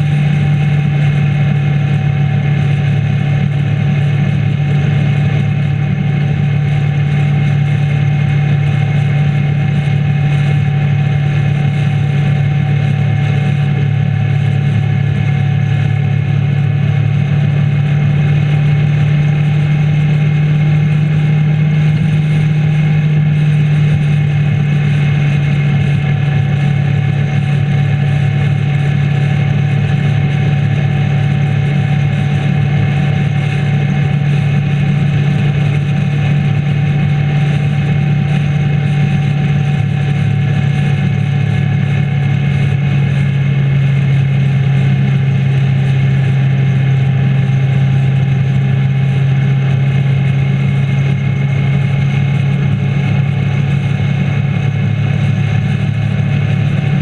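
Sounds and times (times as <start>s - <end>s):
motorcycle engine cruising drone: 0.0s - 57.0s
wind and road rush: 0.0s - 57.0s.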